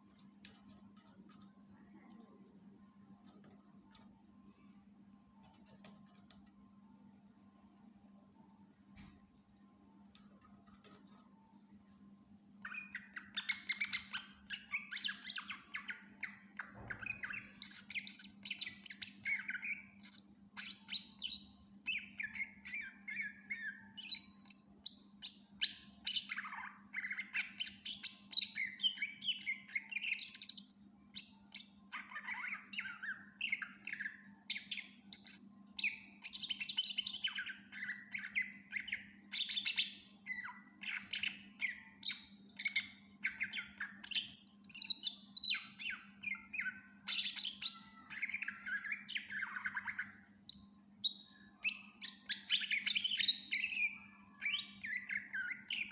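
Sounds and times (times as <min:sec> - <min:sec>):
low electrical hum: 0:00.0 - 0:55.9
songbird chirping and trilling: 0:00.0 - 0:55.9.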